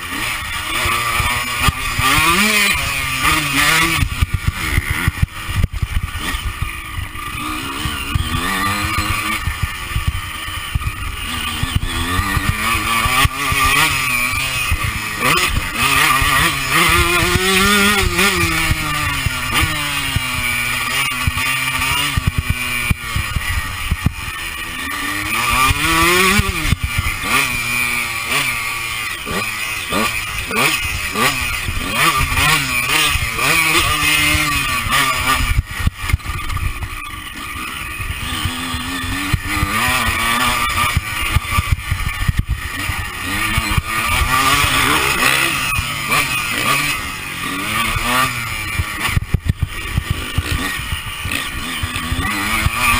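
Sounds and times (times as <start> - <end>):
motocross engine revving: 0.0 - 52.9.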